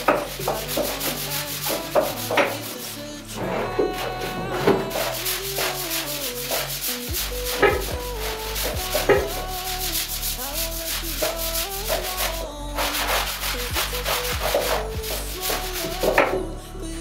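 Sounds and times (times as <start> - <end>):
electronic music with beat: 0.0 - 17.0.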